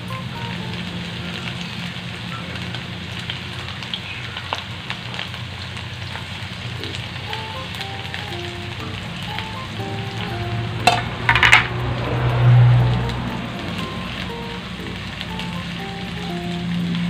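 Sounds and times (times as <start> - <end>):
onion and garlic sizzling in oil: 0.0 - 17.0.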